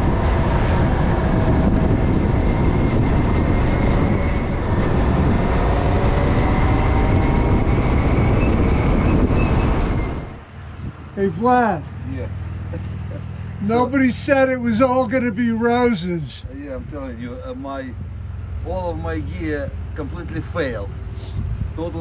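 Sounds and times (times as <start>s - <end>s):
motorcycle engine hum: 0.0s - 22.0s
wind and road noise: 0.0s - 22.0s.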